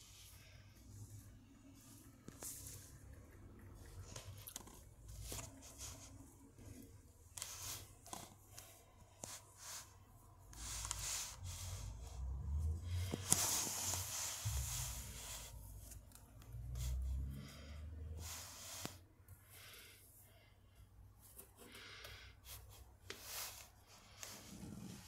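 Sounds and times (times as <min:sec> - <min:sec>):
hand rubbing fur and carpet: 0:00.0 - 0:17.4, 0:18.1 - 0:19.0, 0:22.7 - 0:25.0.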